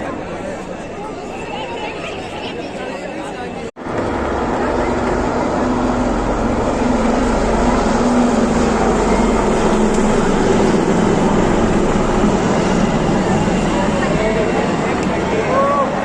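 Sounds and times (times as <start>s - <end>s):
military aircraft engine: 0.0s - 16.0s.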